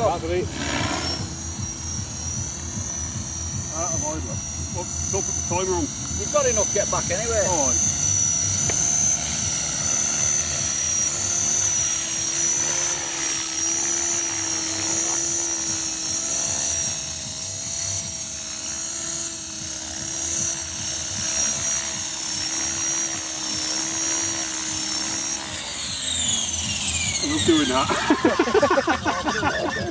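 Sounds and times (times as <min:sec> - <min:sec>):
model helicopter whine: 0:00.0 - 0:29.9.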